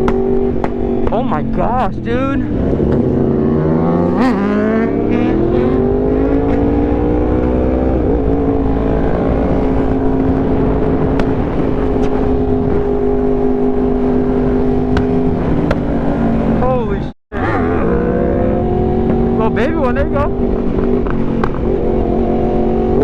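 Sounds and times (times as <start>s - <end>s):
motorcycle engine accelerating: 0.0s - 23.0s
wind rushing over microphone: 0.0s - 23.0s.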